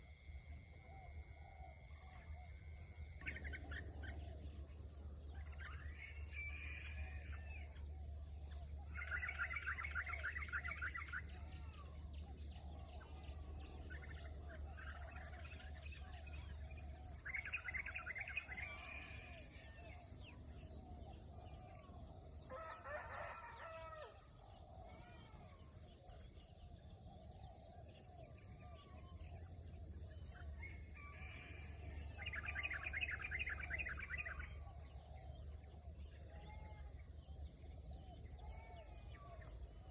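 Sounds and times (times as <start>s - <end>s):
steady high-pitched hiss: 0.0s - 39.9s.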